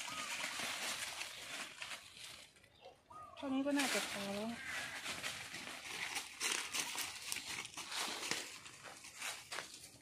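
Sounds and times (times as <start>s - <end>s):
footsteps through dry leaves: 0.0s - 10.0s
leaves rustling as handled: 0.0s - 10.0s.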